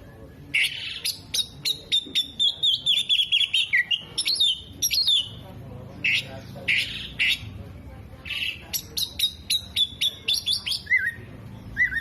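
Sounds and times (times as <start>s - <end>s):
songbird singing rapid varied song: 0.5s - 7.6s, 8.2s - 12.0s.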